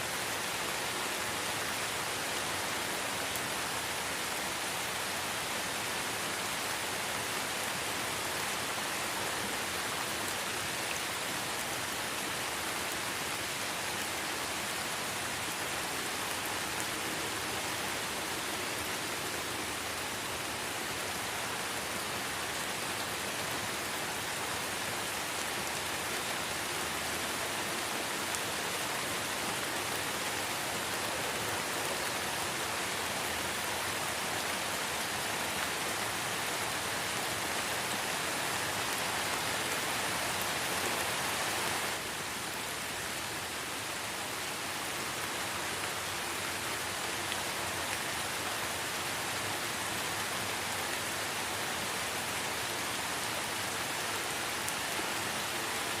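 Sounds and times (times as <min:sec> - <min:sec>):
light rain on foliage: 0:00.0 - 0:56.0.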